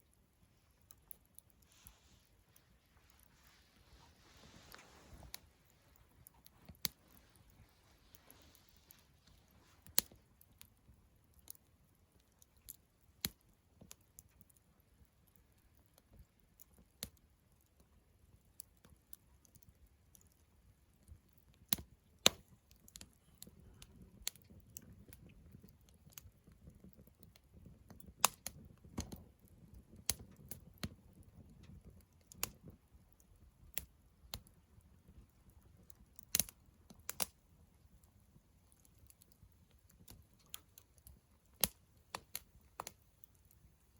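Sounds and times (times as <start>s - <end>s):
campfire crackling and popping: 0.0s - 43.9s
low rumble of flame: 0.0s - 43.9s.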